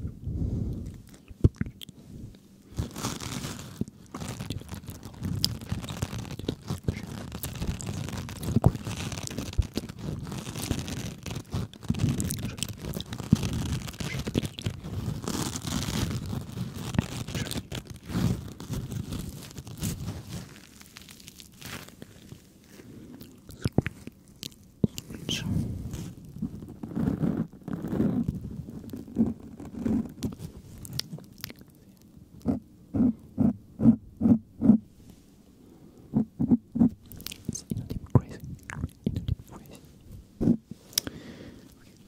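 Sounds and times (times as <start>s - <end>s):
crackling and scrunching: 2.6s - 35.2s, 36.1s - 42.0s.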